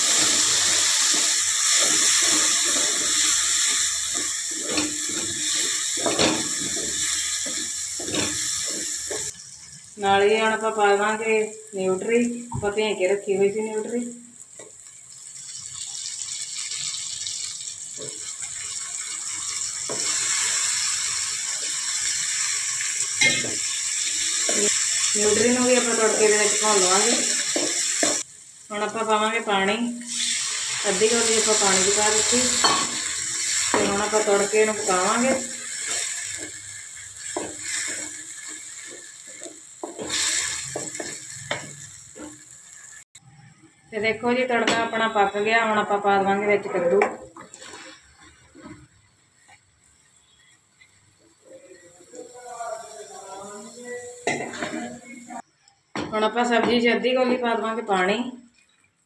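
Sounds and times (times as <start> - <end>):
food sizzling in hot oil: 0.0 - 56.6.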